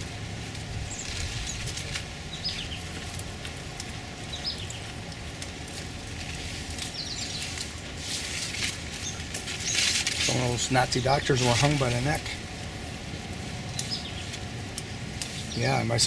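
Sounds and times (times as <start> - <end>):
bush leaves rustling: 0.0 - 16.0.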